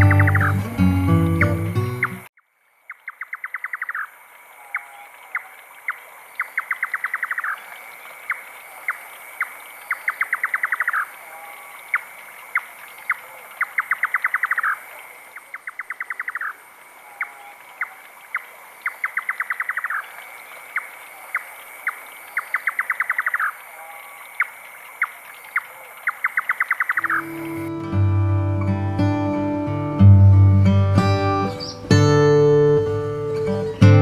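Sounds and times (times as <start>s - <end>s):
nightjar calling: 0.0s - 27.8s, 31.3s - 32.1s.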